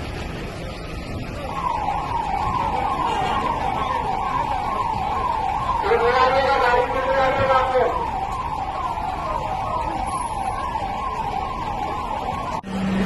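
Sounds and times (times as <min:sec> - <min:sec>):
ambulance siren yelping: 0:00.6 - 0:12.7.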